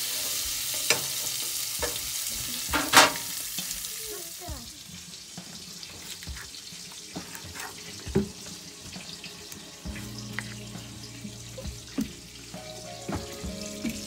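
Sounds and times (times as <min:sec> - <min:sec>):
butter sizzling in a frying pan: 0:00.0 - 0:14.0.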